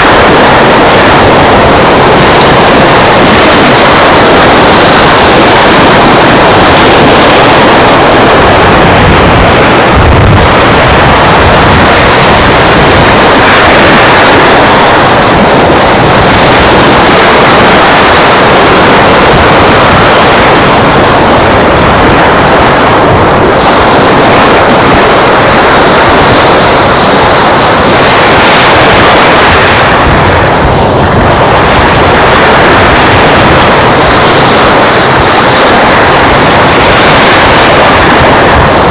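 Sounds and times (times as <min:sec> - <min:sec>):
surf washing on beach: 0:00.0 - 0:38.9
wind on microphone: 0:00.0 - 0:38.9.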